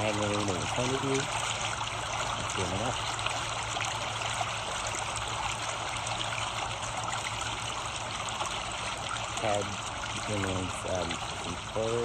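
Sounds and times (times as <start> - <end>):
low steady hum: 0.0 - 12.0
running water trickling: 0.0 - 12.0.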